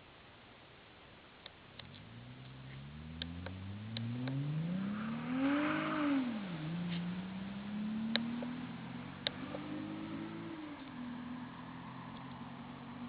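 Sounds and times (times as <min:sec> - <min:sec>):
car engine accelerating: 0:01.8 - 0:13.0.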